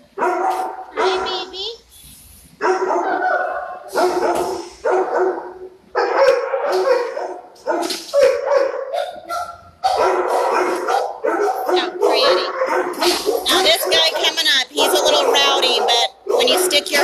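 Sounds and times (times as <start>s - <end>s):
dogs barking: 0.0s - 1.5s, 2.6s - 17.0s.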